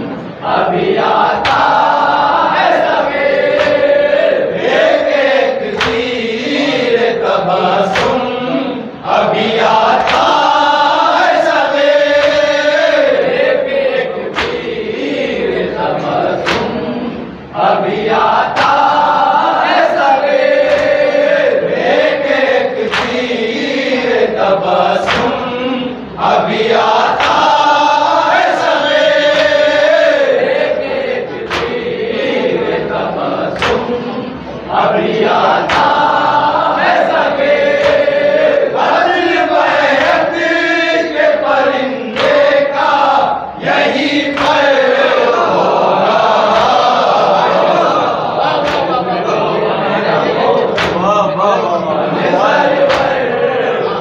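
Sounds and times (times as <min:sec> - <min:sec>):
men chanting in unison: 0:00.0 - 0:54.0
rhythmic chest-beating: 0:00.0 - 0:54.0.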